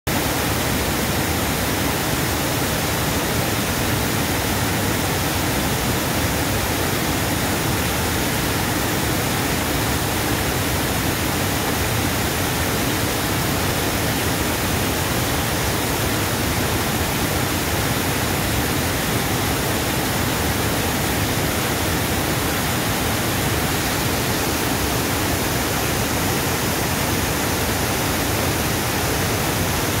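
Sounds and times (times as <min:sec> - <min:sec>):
water rushing over weir: 0:00.1 - 0:30.0.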